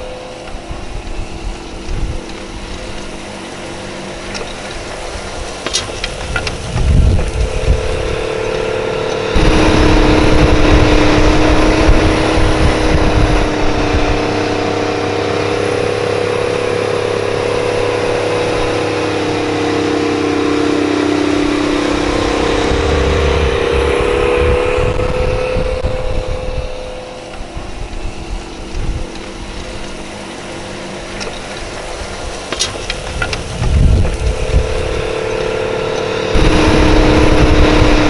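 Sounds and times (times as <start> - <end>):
wind gusts on microphone: 0.0 - 30.2, 31.2 - 38.0
tractor diesel engines under load: 0.0 - 38.0.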